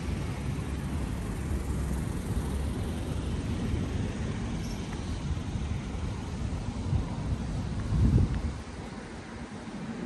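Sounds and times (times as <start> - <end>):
motor vehicle rumble: 0.0 - 10.0.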